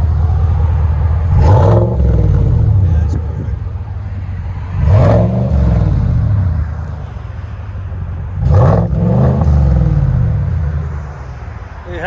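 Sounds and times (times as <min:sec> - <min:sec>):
truck engine revving: 0:00.0 - 0:11.5.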